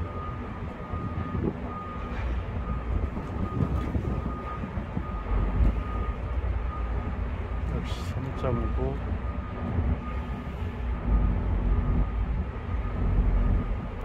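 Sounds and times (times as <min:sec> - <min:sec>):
low machinery rumble: 0:00.0 - 0:14.0
reversing alarm beeps: 0:00.0 - 0:14.0.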